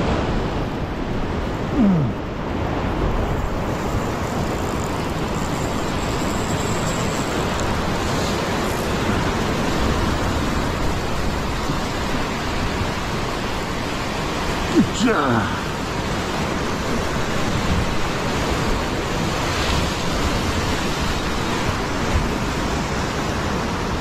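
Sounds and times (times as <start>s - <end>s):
surf foaming over rocks: 0.0s - 24.0s.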